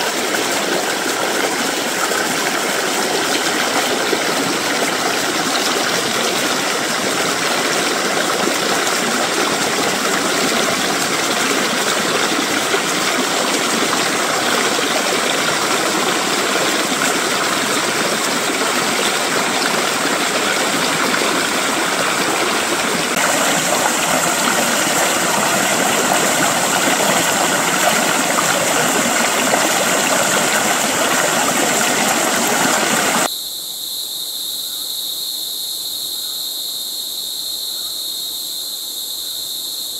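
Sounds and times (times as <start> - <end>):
stream splashing over rocks: 0.0 - 33.3
insects droning: 0.1 - 39.9.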